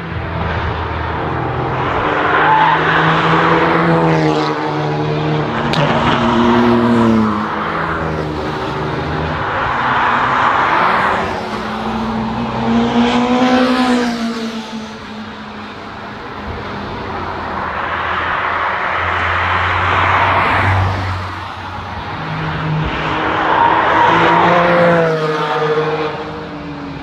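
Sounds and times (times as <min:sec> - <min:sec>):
car engines passing through corner: 0:00.0 - 0:27.0
tyre and road noise: 0:00.0 - 0:27.0.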